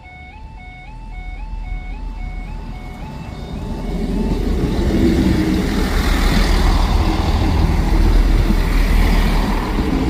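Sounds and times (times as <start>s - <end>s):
diesel engine: 0.0s - 10.0s
train rumbling on rails: 0.0s - 10.0s.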